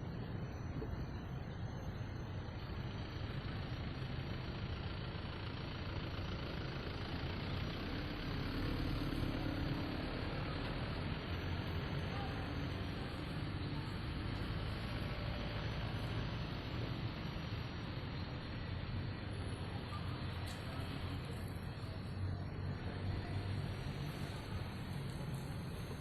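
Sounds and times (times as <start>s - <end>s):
van engine and road rumble: 0.0s - 26.0s.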